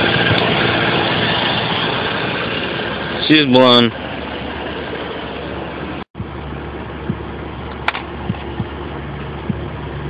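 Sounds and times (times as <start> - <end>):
pickup truck engine idling: 0.0 - 10.0.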